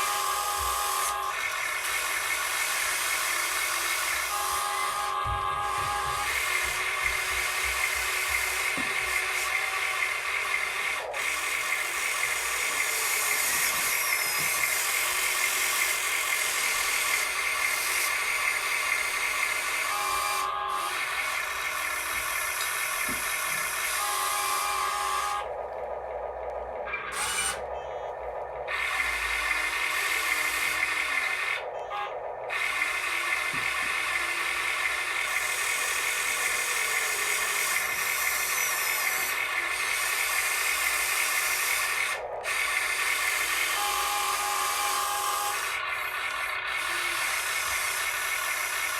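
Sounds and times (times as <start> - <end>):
small electric motors whining: 0.0 - 48.9.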